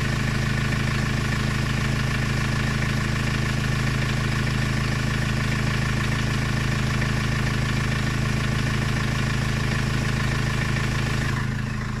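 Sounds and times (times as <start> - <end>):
van engine idling roughly with knock: 0.0 - 12.0.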